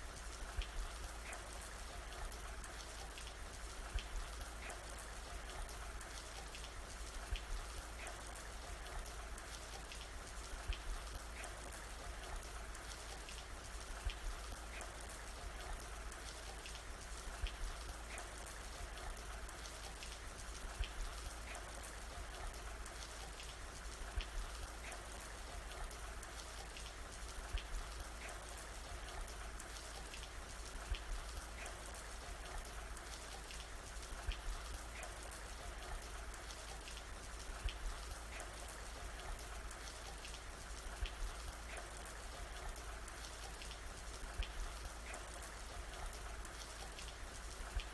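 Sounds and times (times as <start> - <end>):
steady rain falling: 0.0 - 47.9
raindrops ticking: 0.2 - 47.9.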